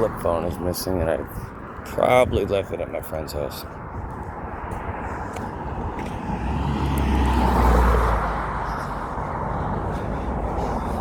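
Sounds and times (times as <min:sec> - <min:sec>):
passing road vehicle rumbling: 0:00.0 - 0:11.0.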